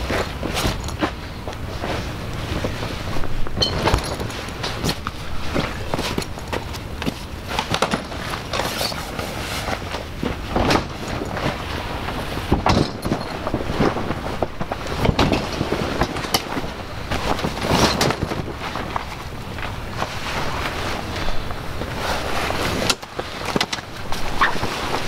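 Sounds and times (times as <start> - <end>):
nylon fabric rustling and flapping: 0.0 - 25.0
tent frame clacks: 0.0 - 25.0
wind rumbling on microphone: 0.0 - 25.0.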